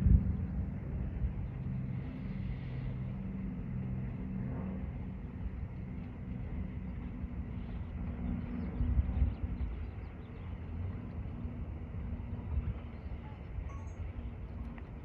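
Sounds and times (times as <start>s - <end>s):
moving vehicle rumble and hum: 0.0s - 15.0s.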